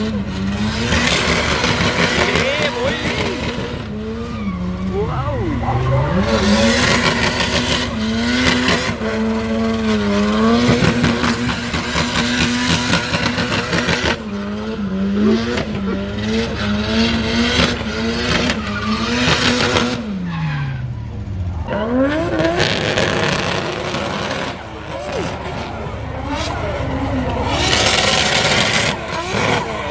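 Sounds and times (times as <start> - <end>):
tyres skidding on wet track: 0.0 - 21.0, 21.6 - 29.9
car engine revving high: 0.0 - 29.9.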